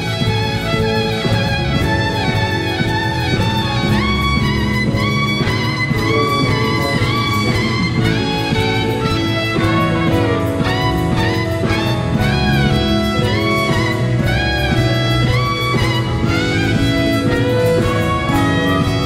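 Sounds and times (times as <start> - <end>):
orchestral accompaniment: 0.0 - 19.0
solo violin melody: 0.0 - 19.0.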